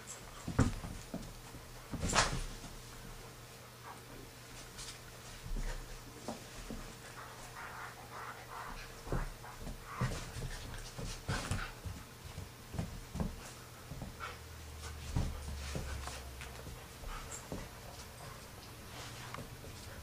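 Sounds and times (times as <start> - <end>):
bodies and paws scuffling: 0.0 - 20.0.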